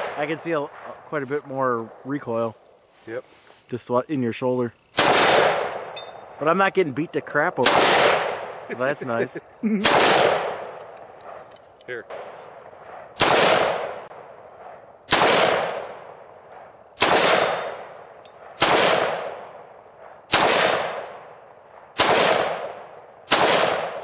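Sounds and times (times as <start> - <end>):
rifle shots echoing: 0.0 - 2.5, 4.9 - 9.2, 9.8 - 24.0.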